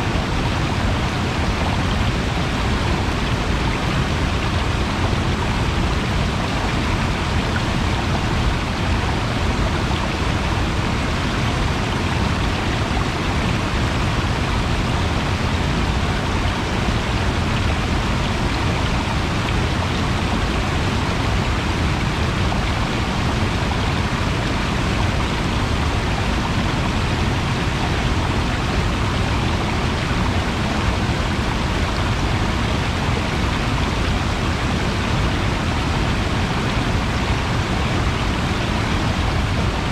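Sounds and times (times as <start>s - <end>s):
loud rushing water: 0.0s - 39.9s.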